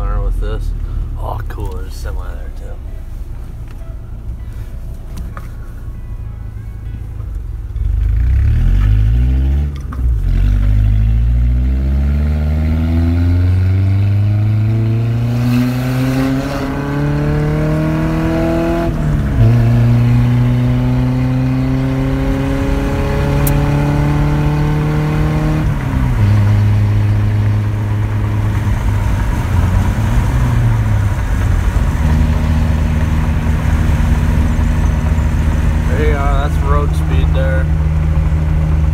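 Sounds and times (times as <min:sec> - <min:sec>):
truck engine accelerating: 0:00.0 - 0:38.9.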